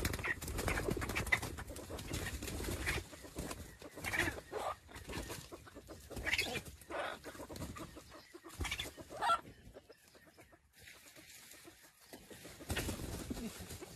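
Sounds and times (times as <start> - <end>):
chickens clucking: 0.0 - 13.9.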